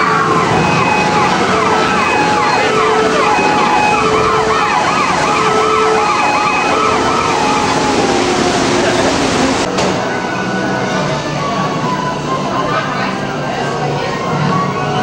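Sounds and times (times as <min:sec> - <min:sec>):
loud steady noise: 0:00.0 - 0:15.0
sirens wailing: 0:00.0 - 0:15.0.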